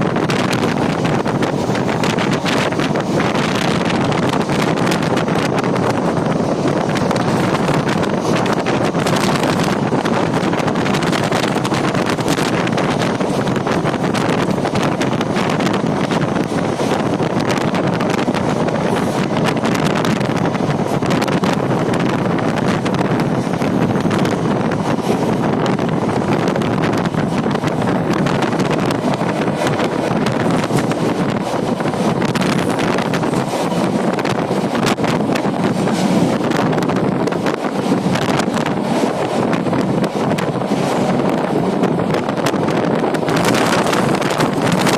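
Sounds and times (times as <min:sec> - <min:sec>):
train rattles and clicks: 0:00.0 - 0:44.9
train rumbling: 0:00.0 - 0:44.9
wind buffeting microphone: 0:00.0 - 0:44.9.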